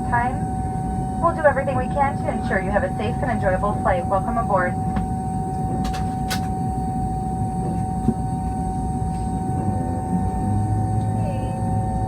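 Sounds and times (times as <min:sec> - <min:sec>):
air-conditioning rush: 0:00.0 - 0:12.0
steady whine: 0:00.0 - 0:12.0.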